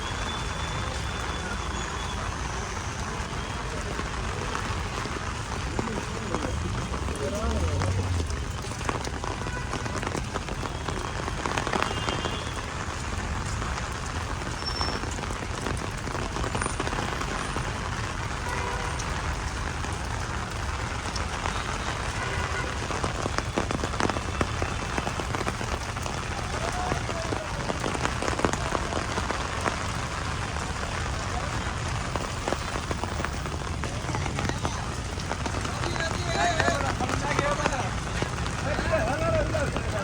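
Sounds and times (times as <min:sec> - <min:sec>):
heavy rain on hard surfaces: 0:00.0 - 0:40.0.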